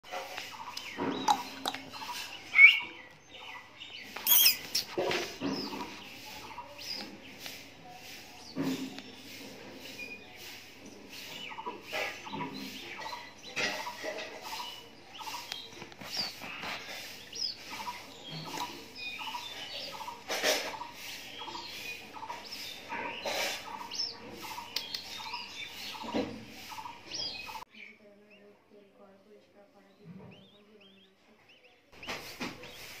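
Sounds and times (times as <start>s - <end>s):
bird chick peeping: 0.0s - 33.0s.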